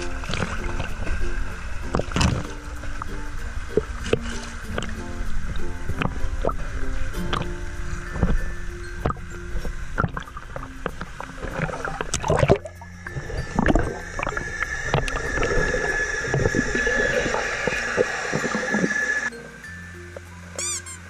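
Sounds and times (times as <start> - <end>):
underwater gurgling and bubbling: 0.0 - 19.3
water splashing in a pool: 0.0 - 19.3.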